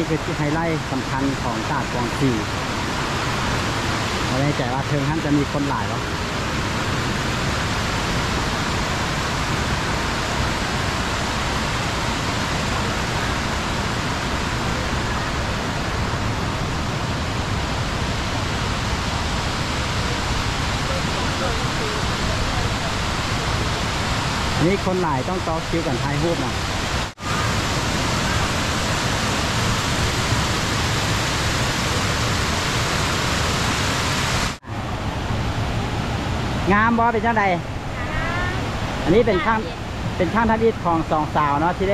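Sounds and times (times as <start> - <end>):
water rushing over small waterfalls: 0.0 - 41.9.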